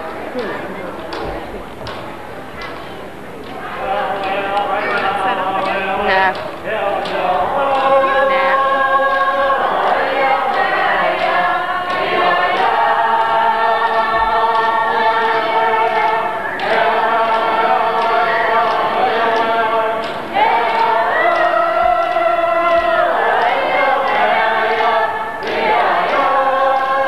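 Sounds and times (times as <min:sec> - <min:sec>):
group singing in unison: 0:03.5 - 0:27.0.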